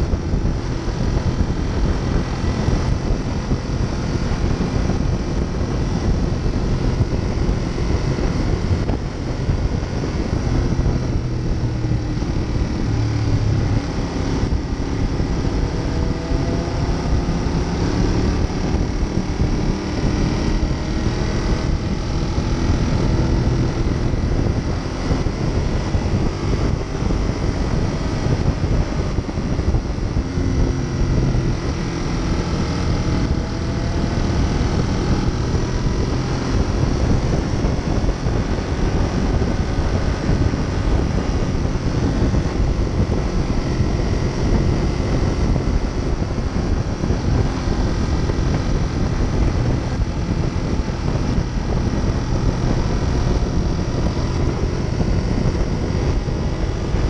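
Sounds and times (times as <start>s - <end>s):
motorcycle engine: 0.0s - 57.0s
wind rush on microphone: 0.0s - 57.0s.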